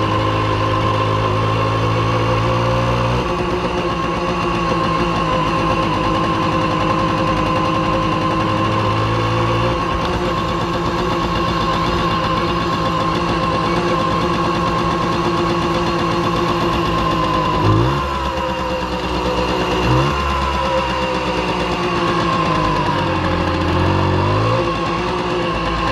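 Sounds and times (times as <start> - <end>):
moped two-stroke engine running: 0.0 - 25.9.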